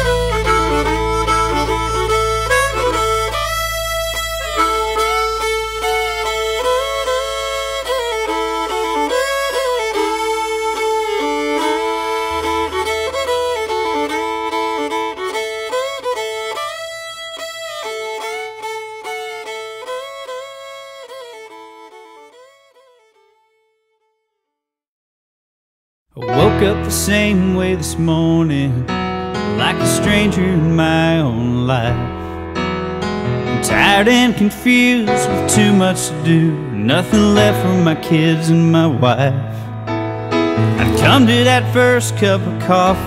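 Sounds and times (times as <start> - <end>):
country music with fiddle: 0.0 - 23.6, 26.2 - 43.0.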